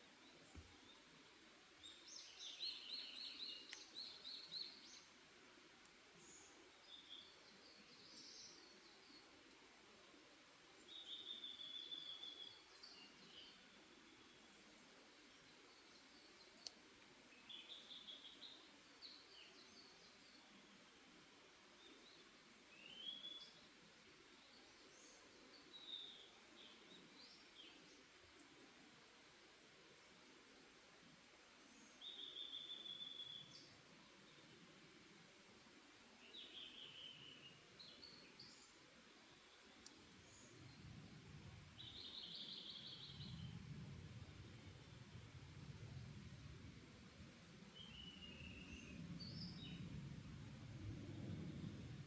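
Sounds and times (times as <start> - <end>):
songbird chirping: 0.0 - 5.3, 6.2 - 20.8, 21.7 - 28.7, 31.6 - 45.6, 47.6 - 52.0
low background hiss: 0.0 - 52.0.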